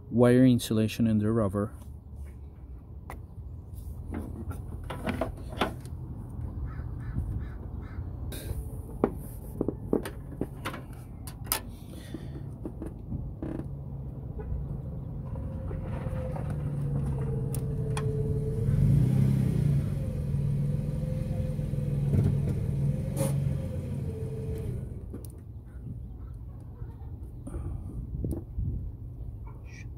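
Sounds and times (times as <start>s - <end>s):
vehicle engine hum: 1.9s - 29.3s.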